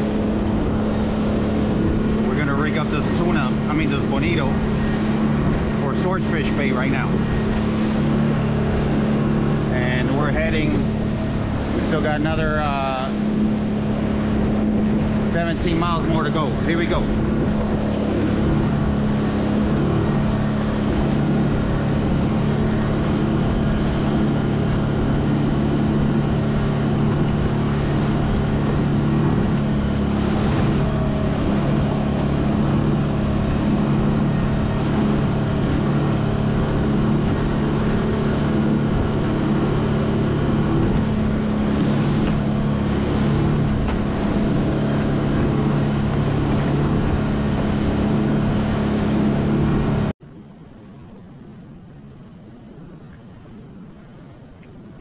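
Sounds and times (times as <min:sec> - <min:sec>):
outboard motor humming: 0:00.0 - 0:55.0
rushing water: 0:00.0 - 0:55.0
wind: 0:00.0 - 0:55.0.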